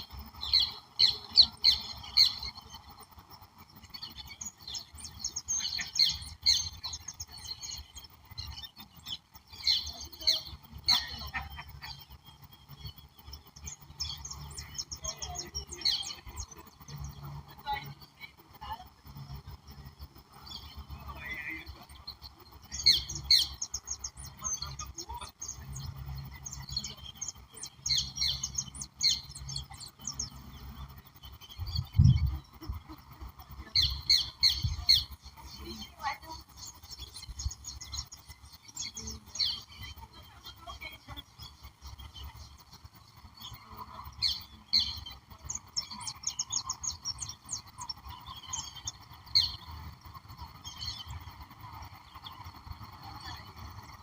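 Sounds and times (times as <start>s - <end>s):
birds chirping and calling: 0.0s - 54.0s
steady low rumble: 0.0s - 54.0s.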